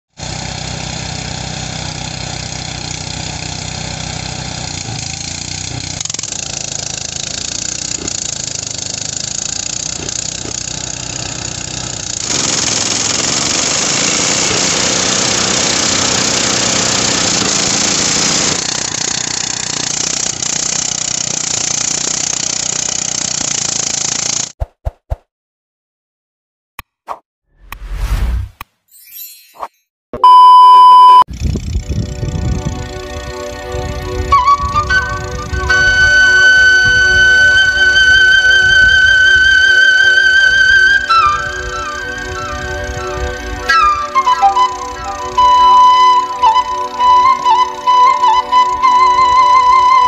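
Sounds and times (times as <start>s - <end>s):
threshing machine engine hum: 0.2s - 24.5s, 31.3s - 50.0s.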